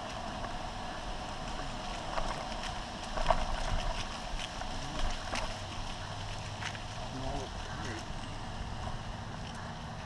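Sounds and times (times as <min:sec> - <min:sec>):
electric bike hum: 0:00.0 - 0:10.0
tyre rumble on asphalt: 0:00.0 - 0:10.0.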